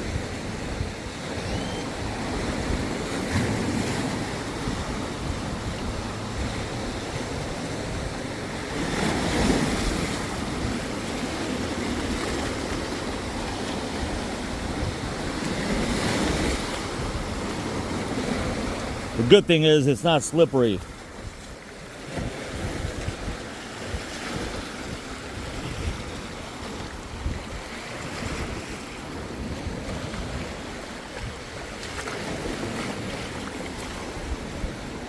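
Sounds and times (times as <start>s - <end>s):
waves breaking on shore: 0.0s - 35.0s.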